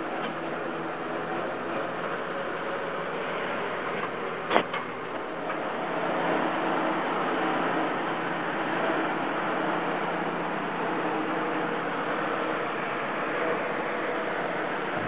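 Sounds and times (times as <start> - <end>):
tow tug engine running: 0.0 - 15.0.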